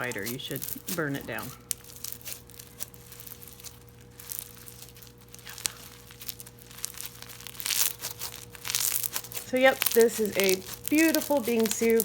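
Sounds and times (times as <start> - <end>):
slime squishing with small crackles: 0.0 - 12.0.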